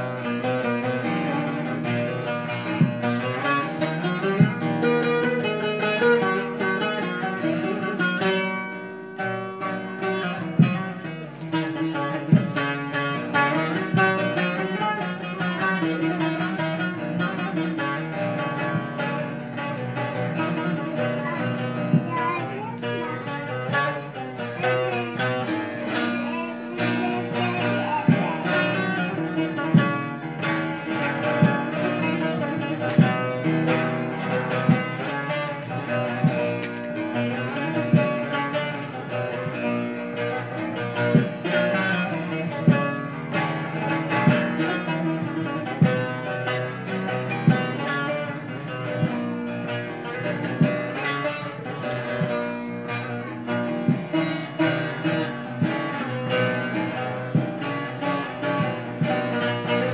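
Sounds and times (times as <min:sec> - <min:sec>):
plucked long-necked lute melody: 0:00.0 - 0:59.9.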